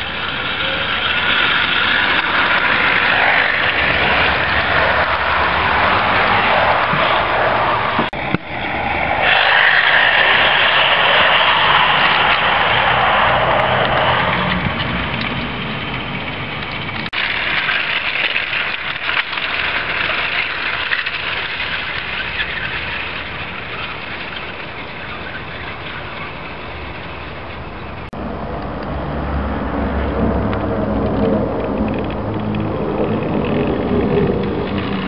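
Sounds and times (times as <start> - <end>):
model train wheels rattling on rails: 0.0 - 8.1, 9.2 - 28.1, 30.5 - 35.0.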